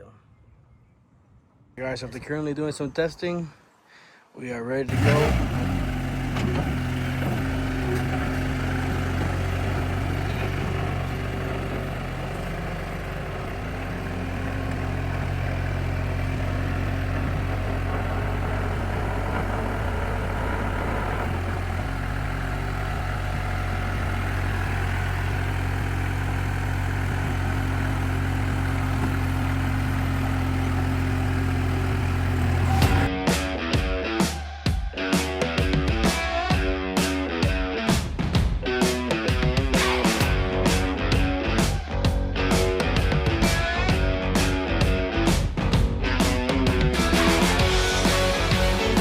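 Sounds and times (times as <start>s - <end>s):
diesel engine running: 4.9s - 33.1s, 37.9s - 49.0s.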